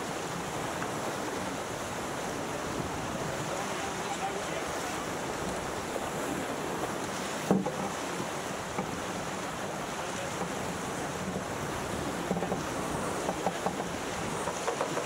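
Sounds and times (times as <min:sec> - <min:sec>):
water rushing along hull: 0:00.0 - 0:15.0.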